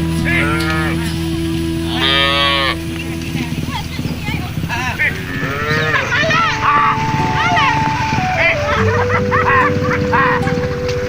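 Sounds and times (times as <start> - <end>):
cattle mooing: 0.0 - 11.0
steady low hum: 0.0 - 11.0.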